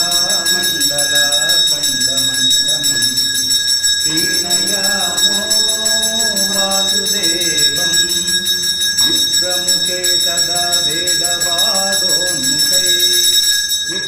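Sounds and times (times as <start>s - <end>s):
man chanting: 0.0s - 14.0s
temple bell ringing: 0.0s - 14.0s.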